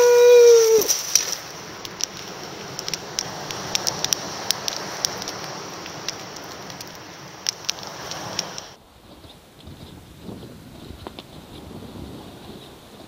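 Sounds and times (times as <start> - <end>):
campfire crackling and popping: 0.0 - 11.7.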